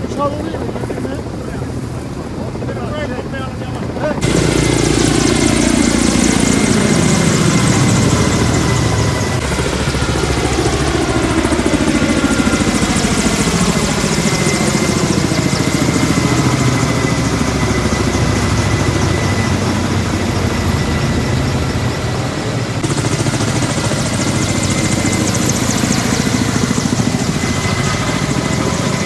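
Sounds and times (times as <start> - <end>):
loud steady engine noise: 0.0 - 29.0.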